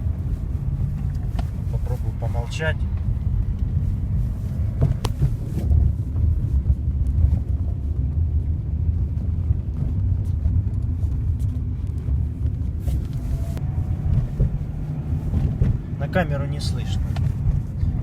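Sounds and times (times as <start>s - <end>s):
road and tyre rumble: 0.0s - 18.0s.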